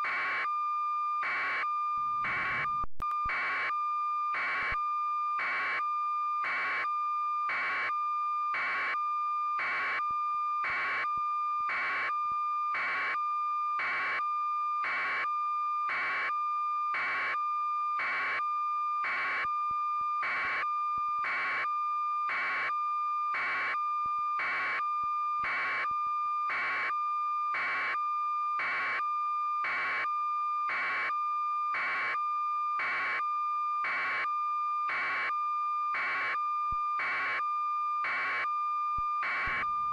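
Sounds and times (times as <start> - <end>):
continuous high-pitched tone: 0.0 - 39.9.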